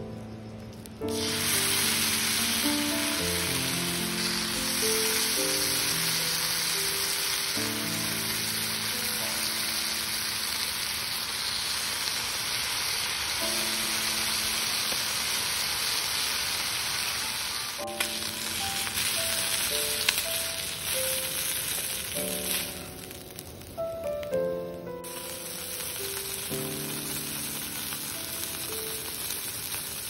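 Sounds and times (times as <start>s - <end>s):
sausages sizzling in a skillet: 0.4s - 24.4s, 25.0s - 30.0s.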